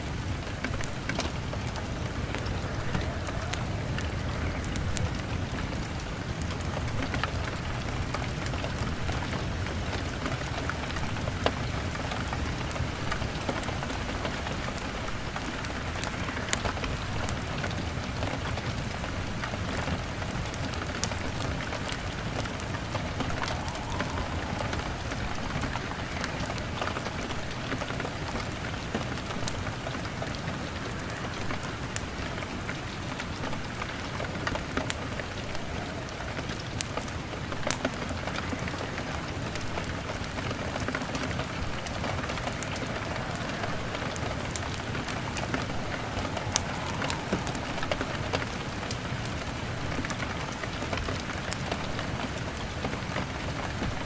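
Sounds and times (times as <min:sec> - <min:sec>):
rain pattering on window glass: 0:00.0 - 0:54.0
wood fire crackling: 0:00.0 - 0:54.0.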